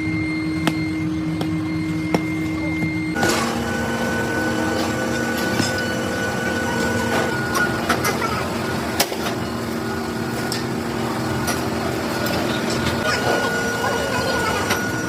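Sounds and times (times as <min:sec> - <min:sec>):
metalworking machine whining: 0:00.0 - 0:15.0.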